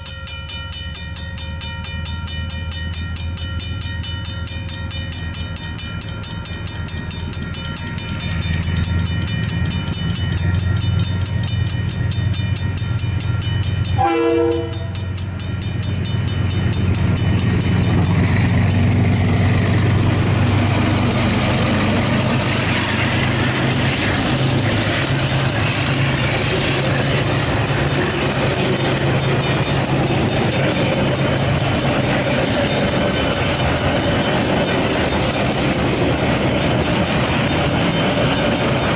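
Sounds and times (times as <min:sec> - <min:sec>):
diesel locomotive engine hum: 0:00.0 - 0:38.9
level crossing bells ringing: 0:00.0 - 0:38.9
train wheels rumbling: 0:00.0 - 0:38.9.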